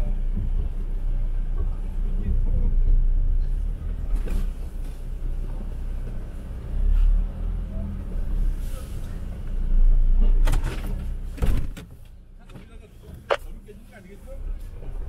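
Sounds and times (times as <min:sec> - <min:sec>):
vehicle engine rumbling under load: 0:00.0 - 0:15.0.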